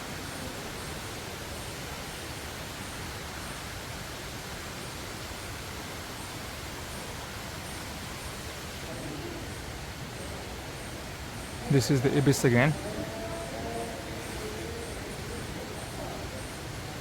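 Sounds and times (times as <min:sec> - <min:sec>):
rainforest enclosure background noise: 0:00.0 - 0:17.0.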